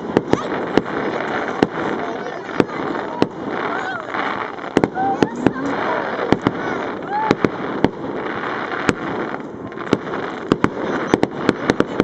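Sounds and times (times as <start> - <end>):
fireworks bangs: 0.0 - 12.0
steady noisy rush: 0.0 - 12.0.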